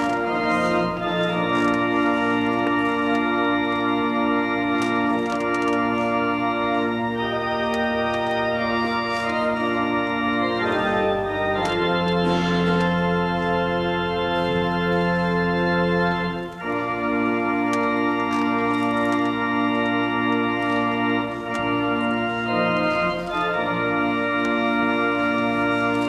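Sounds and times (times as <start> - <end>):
organ playing held chords: 0.0 - 26.0.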